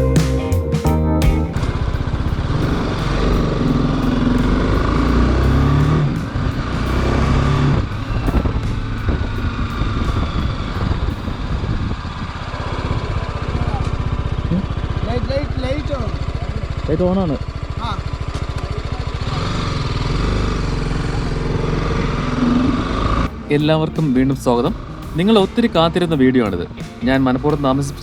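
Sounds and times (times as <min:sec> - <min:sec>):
motorcycle engine revving and idling: 0:01.5 - 0:28.0.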